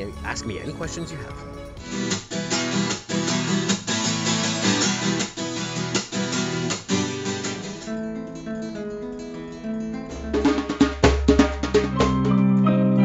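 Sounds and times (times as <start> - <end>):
acoustic guitar strummed chords: 1.8 - 12.8
classical guitar plucked notes: 1.9 - 12.8.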